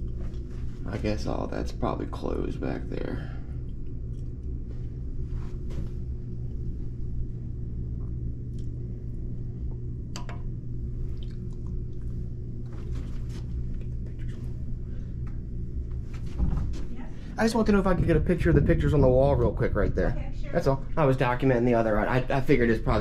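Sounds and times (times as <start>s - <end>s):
low indoor hum: 0.0s - 23.0s.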